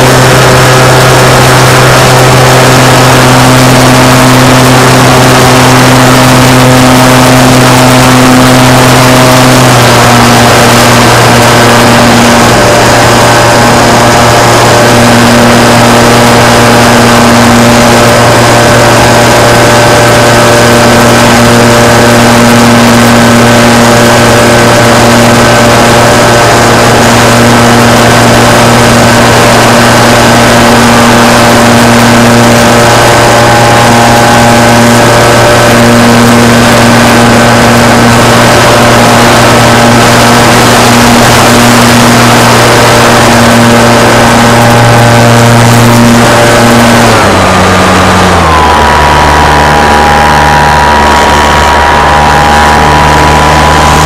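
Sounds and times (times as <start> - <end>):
model aircraft motor drone: 0.0 - 54.0.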